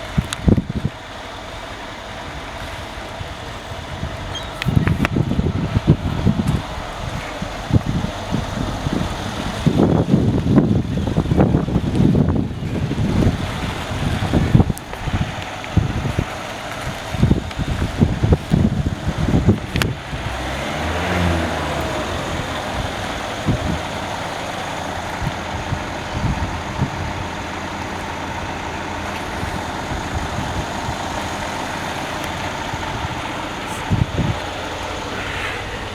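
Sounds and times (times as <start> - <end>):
car engine idling unevenly: 0.0 - 35.9.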